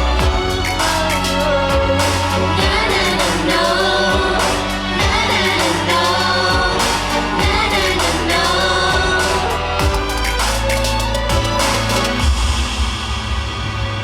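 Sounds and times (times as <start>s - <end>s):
voices singing together: 0.0s - 12.2s
pop song over sound system: 0.0s - 12.5s
deep kick drum beat: 0.0s - 12.7s.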